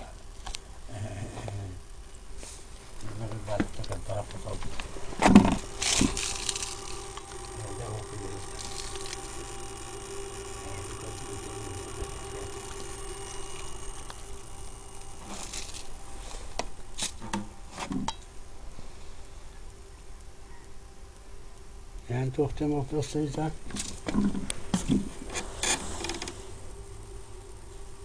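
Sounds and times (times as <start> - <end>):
electrical hum: 0.0 - 19.9, 21.0 - 28.0
faint electrical crackle: 0.0 - 28.0.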